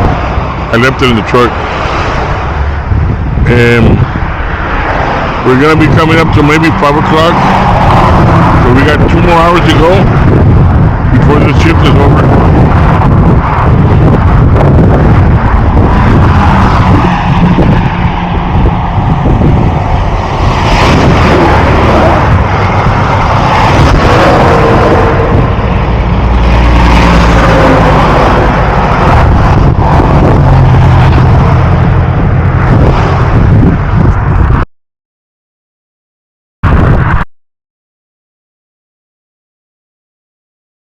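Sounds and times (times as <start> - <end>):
vehicle engine and road rumble: 0.0 - 34.7, 36.6 - 37.3.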